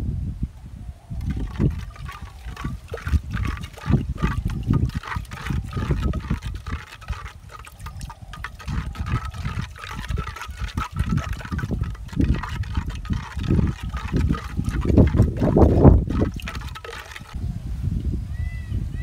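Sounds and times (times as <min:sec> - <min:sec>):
hand sloshing liquid in a pot: 0:01.2 - 0:17.4.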